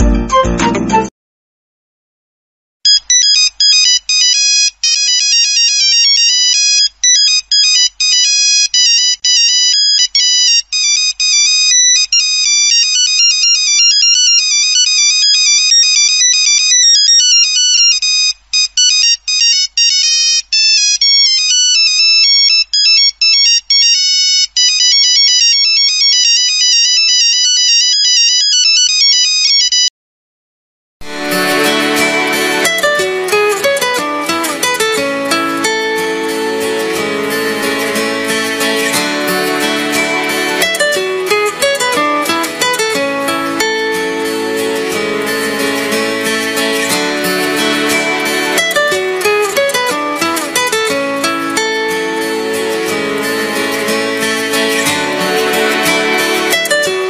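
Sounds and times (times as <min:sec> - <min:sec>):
mobile phone ringtone melody: 0:02.9 - 0:29.9, 0:31.1 - 0:57.0.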